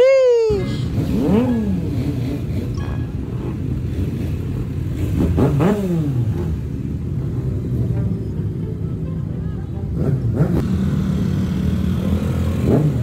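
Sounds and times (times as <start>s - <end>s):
motorcycle engines running: 0.4s - 13.0s
motorcycle engine revving: 0.7s - 8.1s, 9.9s - 13.0s.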